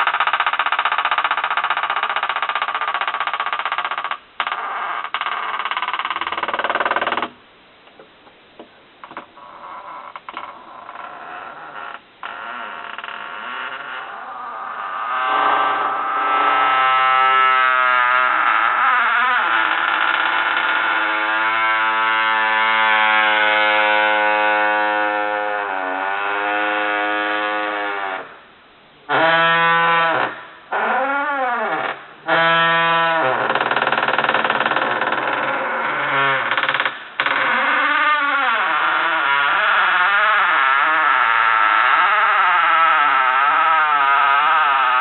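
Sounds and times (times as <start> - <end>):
door hinge creaking: 0.0 - 28.3, 29.1 - 45.0.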